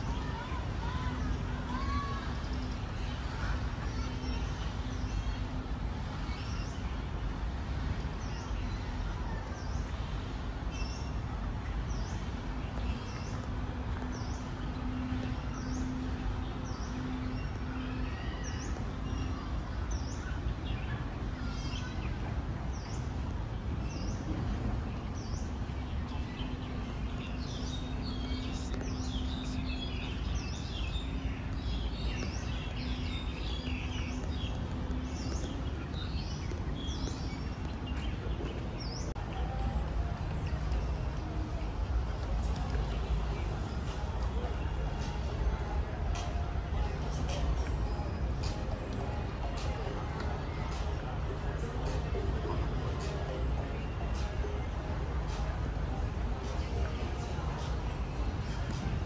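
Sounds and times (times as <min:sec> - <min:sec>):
birds chirping: 0:08.2 - 0:59.0.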